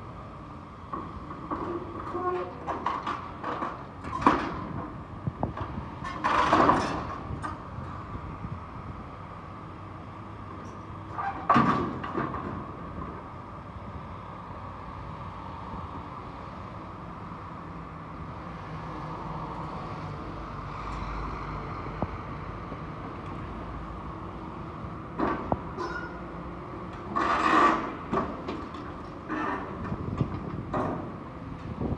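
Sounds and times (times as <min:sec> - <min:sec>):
excavator engine and hydraulics: 0:00.0 - 0:31.9.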